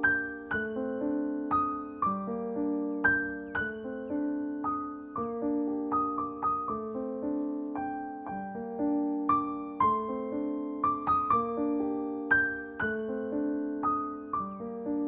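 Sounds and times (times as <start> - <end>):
piano melody and chords: 0.0 - 15.0.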